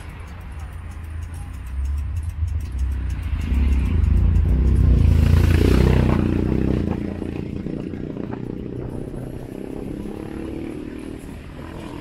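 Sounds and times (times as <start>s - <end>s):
heavy low engine rumble: 0.0s - 10.2s.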